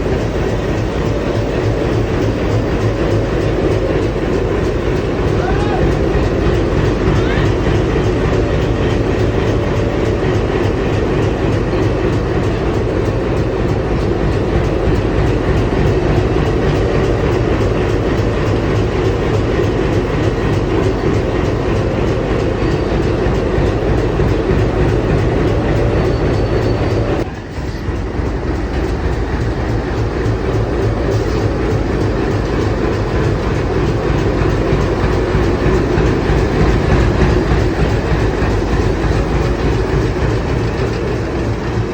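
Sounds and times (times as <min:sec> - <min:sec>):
diesel locomotive engine running: 0:00.0 - 0:41.9.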